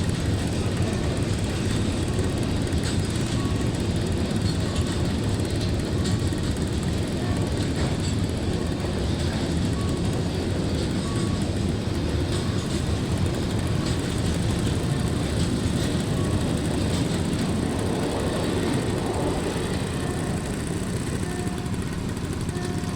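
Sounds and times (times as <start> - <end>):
freight train rumbling past: 0.0 - 22.9.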